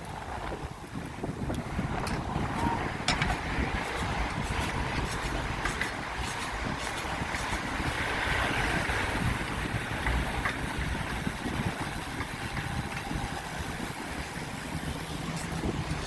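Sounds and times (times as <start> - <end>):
road noise: 0.0 - 16.0
wind rumbling on microphone: 0.0 - 16.0.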